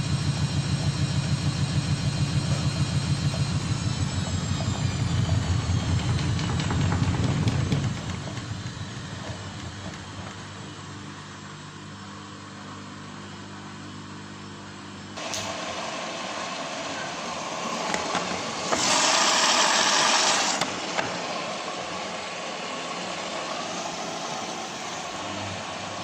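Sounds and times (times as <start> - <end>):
washing machine humming: 0.0 - 14.0, 14.7 - 26.0.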